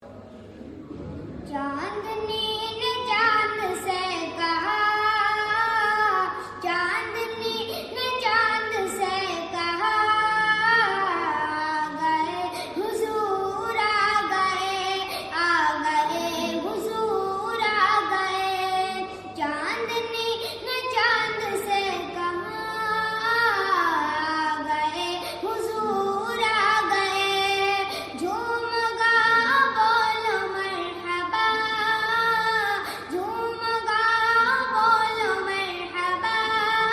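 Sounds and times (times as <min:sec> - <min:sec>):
high voice singing devotional song: 0:01.3 - 0:36.9.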